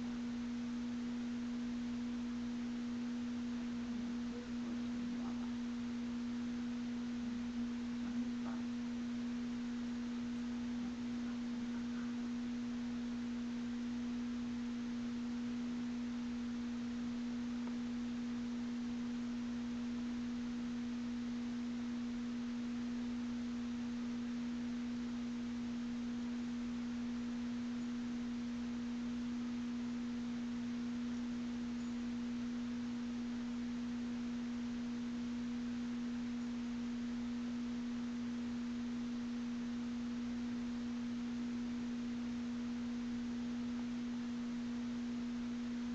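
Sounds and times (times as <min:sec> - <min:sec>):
steady electrical hum: 0:00.0 - 0:45.9.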